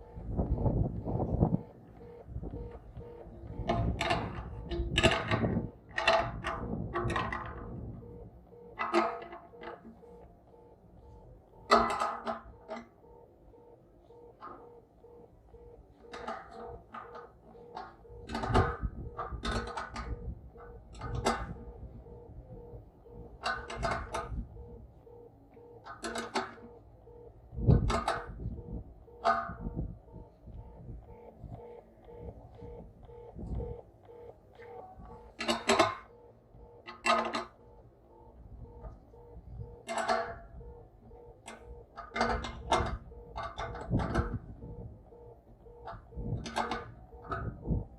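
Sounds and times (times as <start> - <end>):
electronic beeping: 0.0 - 47.9.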